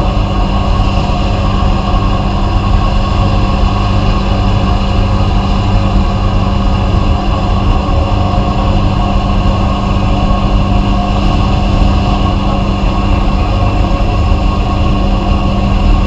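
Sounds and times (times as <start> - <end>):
sandblasting machine humming: 0.0 - 16.0.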